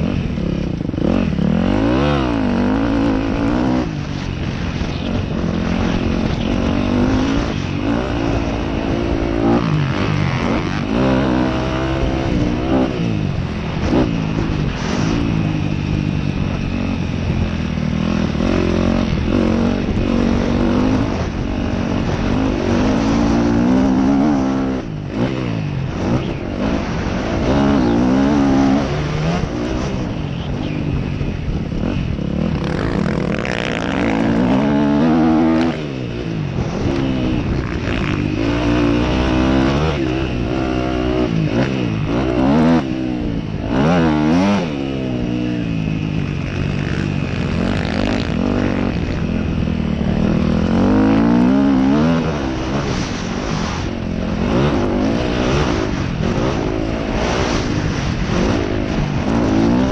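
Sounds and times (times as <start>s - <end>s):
dirt bike engine revving: 0.0s - 59.9s
wind noise on microphone: 0.0s - 59.9s.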